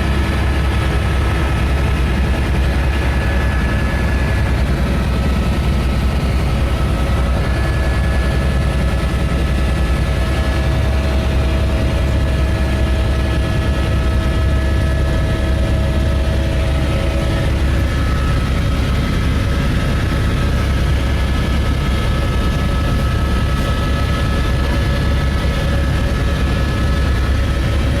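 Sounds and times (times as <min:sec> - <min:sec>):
helicopter rotor thrum: 0:00.0 - 0:28.0
steady whining tones: 0:00.0 - 0:28.0.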